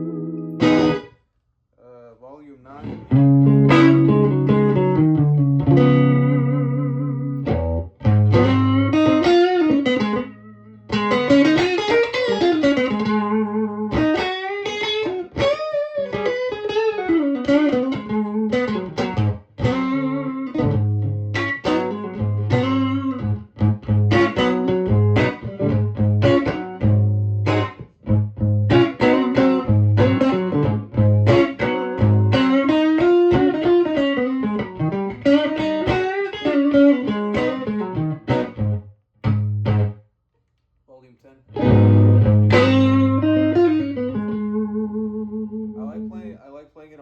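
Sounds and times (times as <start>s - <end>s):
electric guitar chords and bends: 0.0s - 1.1s, 2.8s - 40.0s, 41.5s - 46.3s.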